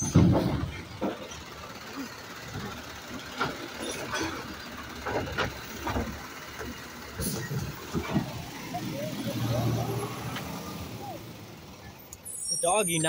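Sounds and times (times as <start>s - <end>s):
trash cart clunking and knocking: 0.0s - 11.9s
garbage truck engine rumble: 0.0s - 13.0s.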